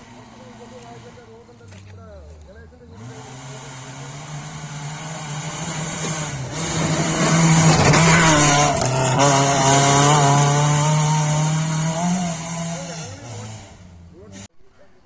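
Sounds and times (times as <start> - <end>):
rally car engine at high revs: 0.0 - 1.8, 2.4 - 14.5.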